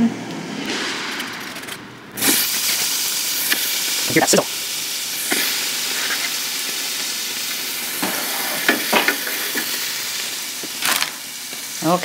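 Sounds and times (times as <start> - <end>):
sharp crackles: 0.2 - 12.0
meat sizzling in air fryer: 1.2 - 12.0.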